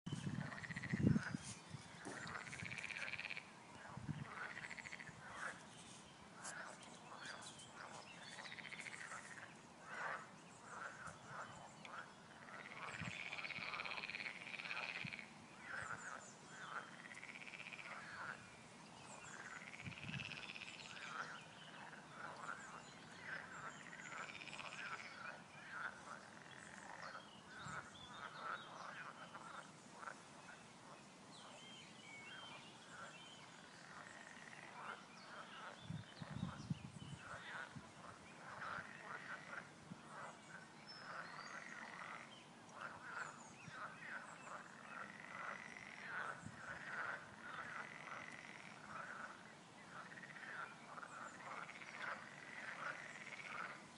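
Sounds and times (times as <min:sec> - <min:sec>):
frogs croaking: 0:00.2 - 0:05.7, 0:06.4 - 0:31.0, 0:32.8 - 0:53.9.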